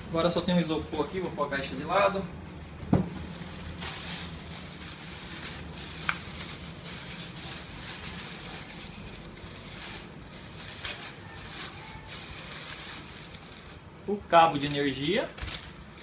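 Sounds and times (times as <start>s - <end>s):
plastic bag crinkling: 3.1s - 16.0s.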